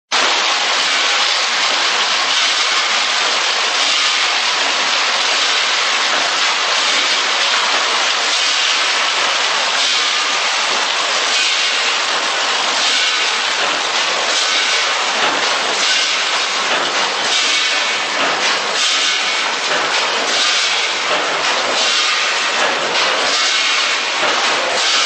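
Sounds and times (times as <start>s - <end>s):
packing machine hiss and whir: 0.2s - 25.0s.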